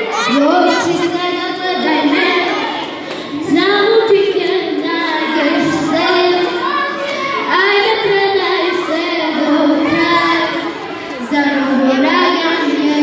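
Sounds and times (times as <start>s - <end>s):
girl singing into microphone: 0.0s - 13.0s.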